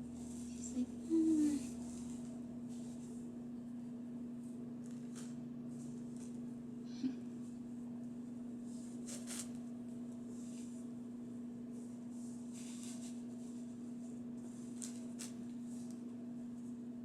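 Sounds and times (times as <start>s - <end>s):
faint rustles of handling: 0.0s - 6.6s, 7.3s - 17.0s
steady low hum: 0.0s - 17.0s.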